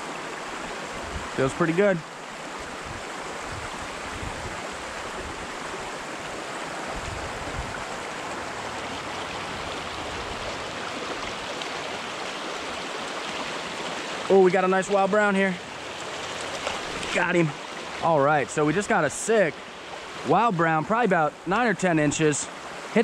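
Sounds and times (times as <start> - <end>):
stream rushing over riffles: 0.0 - 23.0.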